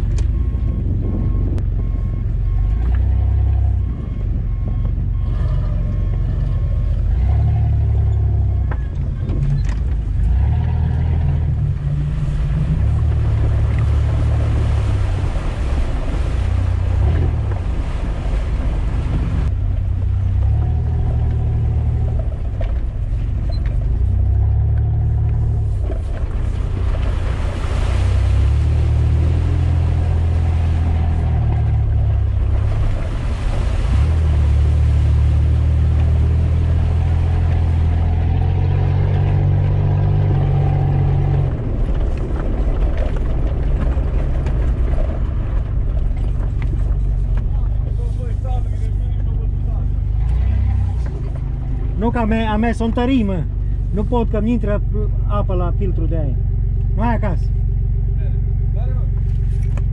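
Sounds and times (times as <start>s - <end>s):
vehicle engine revving: 0.0s - 59.9s
water rushing and splashing: 5.2s - 57.4s.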